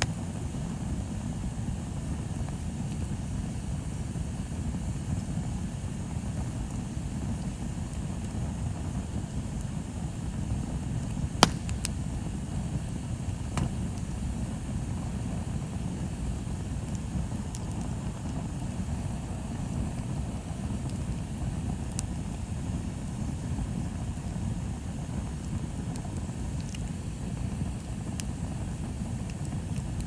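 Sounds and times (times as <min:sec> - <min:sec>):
bonfire crackling pops: 0:00.0 - 0:30.0
fire low rumble: 0:00.0 - 0:30.0.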